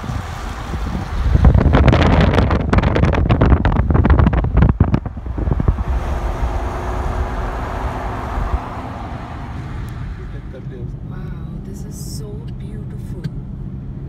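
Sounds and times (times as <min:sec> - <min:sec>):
wind buffeting microphone: 0:00.0 - 0:12.2
car road and engine noise: 0:00.0 - 0:14.0.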